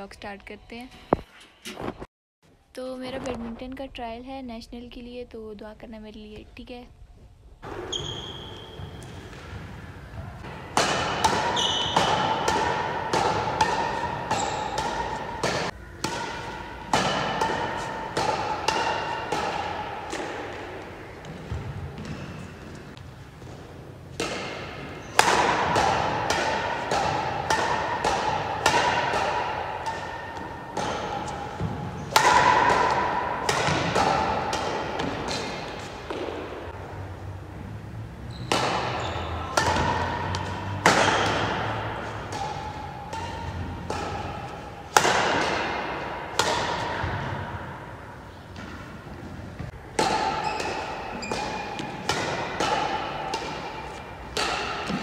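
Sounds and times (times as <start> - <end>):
racket hitting shuttlecock: 7.6 - 37.2, 38.3 - 55.0.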